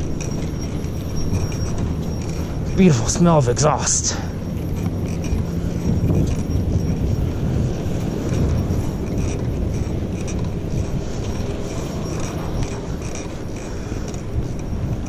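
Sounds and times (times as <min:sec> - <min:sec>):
metallic clinks and rattles: 0:00.0 - 0:15.0
pickup truck engine rumble: 0:00.0 - 0:15.0.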